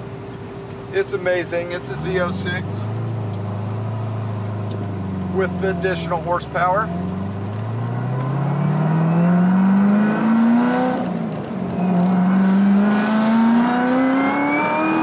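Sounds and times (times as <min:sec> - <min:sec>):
car engine accelerating hard: 0:01.8 - 0:15.0.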